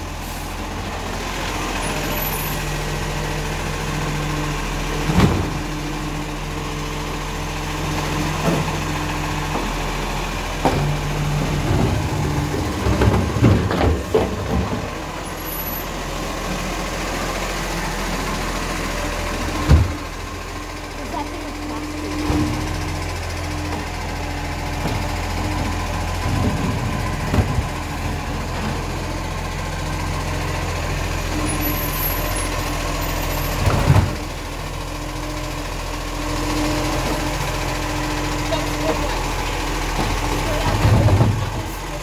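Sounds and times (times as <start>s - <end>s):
truck engine droning: 0.0s - 42.0s.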